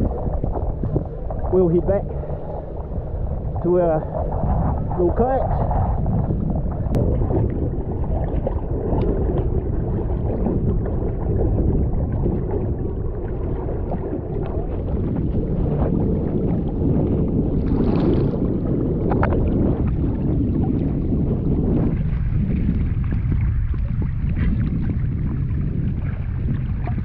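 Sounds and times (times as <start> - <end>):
faint water splashes: 0.0 - 27.0
sea water rushing: 0.0 - 27.0
wind on microphone: 0.0 - 27.0.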